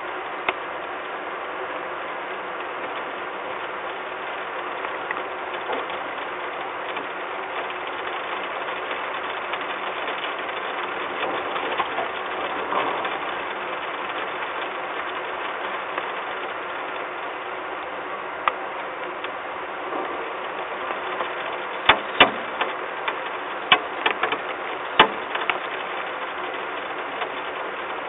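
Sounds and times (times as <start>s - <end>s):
steady rain hiss: 0.0s - 28.0s
raindrops ticking on box: 0.1s - 28.0s.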